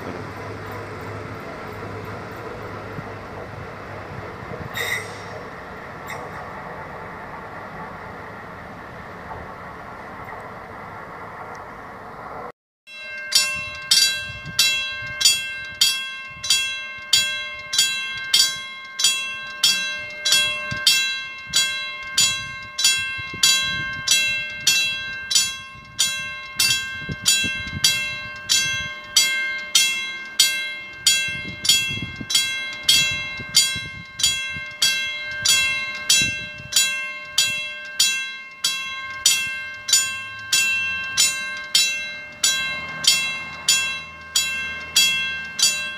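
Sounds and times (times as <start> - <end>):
level crossing warning bell ringing: 0.0 - 9.2, 12.9 - 45.9.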